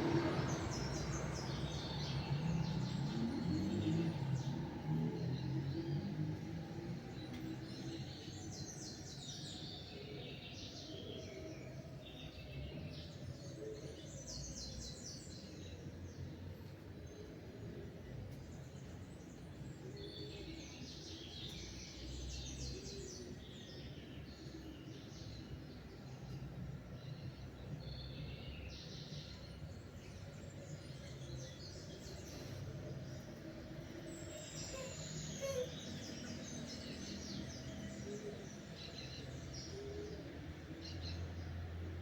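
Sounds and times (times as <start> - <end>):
small birds chirping and singing: 0.0 - 42.0
songbirds chattering song: 0.0 - 42.0.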